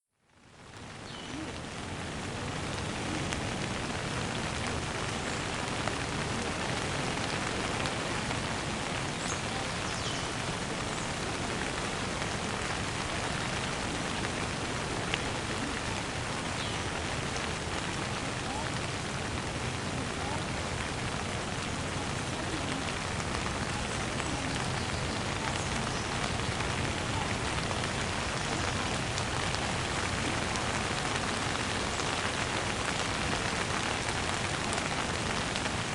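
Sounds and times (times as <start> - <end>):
steady rain hiss: 0.2 - 35.9.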